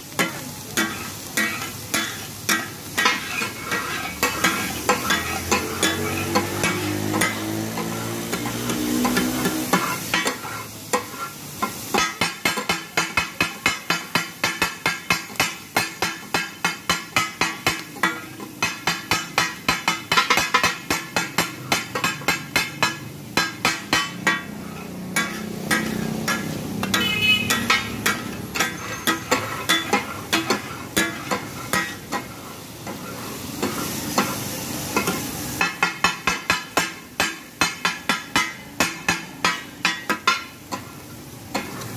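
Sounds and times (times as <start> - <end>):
frying sizzle: 0.0 - 41.9
metal spatulas chopping on griddle: 0.1 - 41.9.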